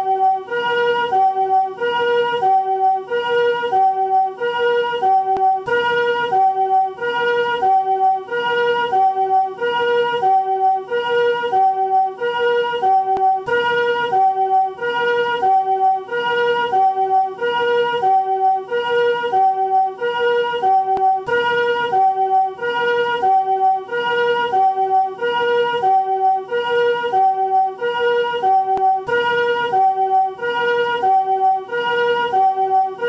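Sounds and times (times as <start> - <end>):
ambulance two-tone siren: 0.0 - 33.0.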